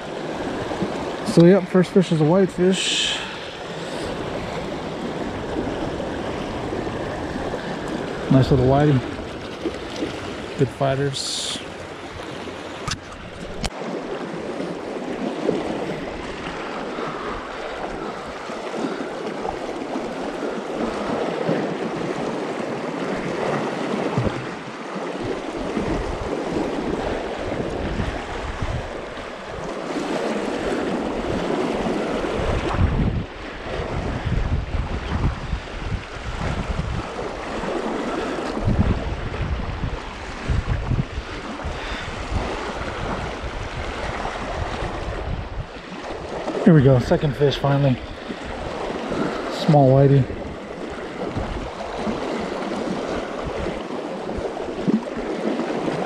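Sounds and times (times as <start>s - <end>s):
river water rushing: 0.0s - 34.2s, 35.8s - 39.2s, 39.8s - 56.0s
wind buffeting microphone: 0.0s - 56.0s.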